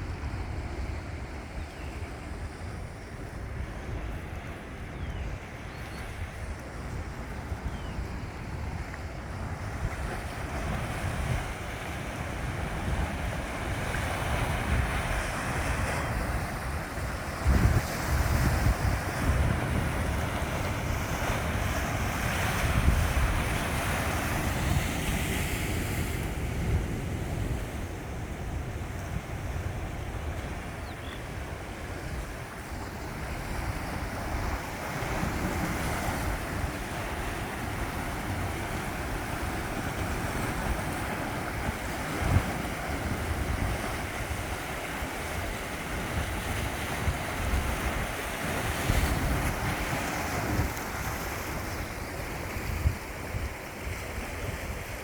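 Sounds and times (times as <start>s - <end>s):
sea surf washing ashore: 0.0s - 55.0s
wind buffeting microphone: 0.0s - 55.0s.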